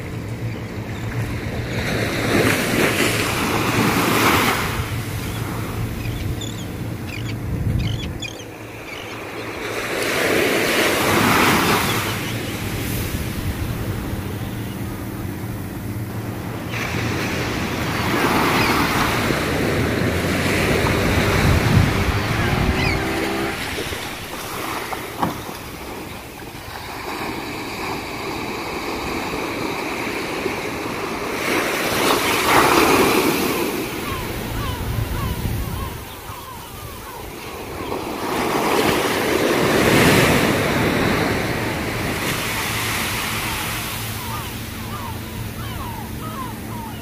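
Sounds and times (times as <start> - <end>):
sea waves breaking on beach: 0.0 - 47.0.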